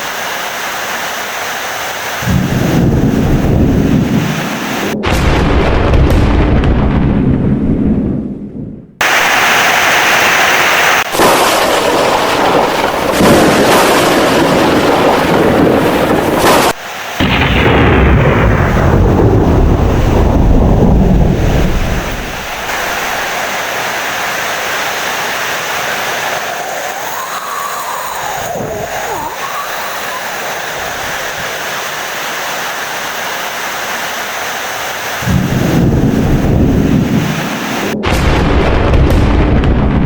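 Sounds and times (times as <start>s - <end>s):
heavy rain: 0.0s - 5.0s, 9.0s - 39.6s
thunder rumbling: 2.2s - 32.5s, 35.0s - 40.0s.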